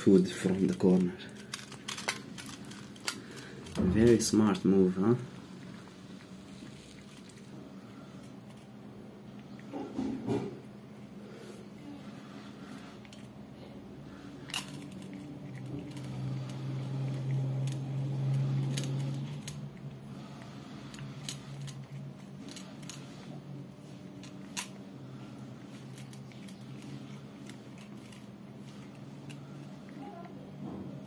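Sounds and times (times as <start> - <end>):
cat chewing and licking: 0.0 - 30.6
low steady hum: 0.0 - 31.0.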